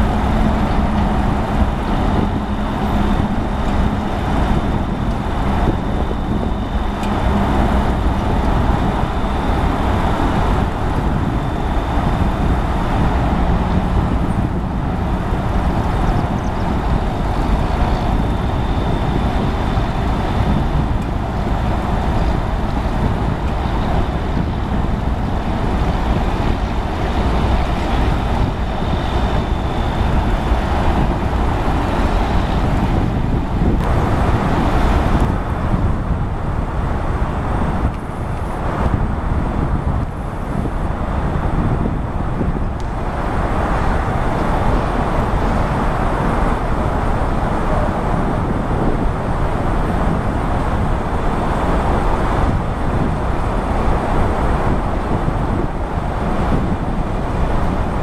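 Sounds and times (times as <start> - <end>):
diesel machinery rumble: 0.0 - 58.0
road traffic: 0.0 - 58.0.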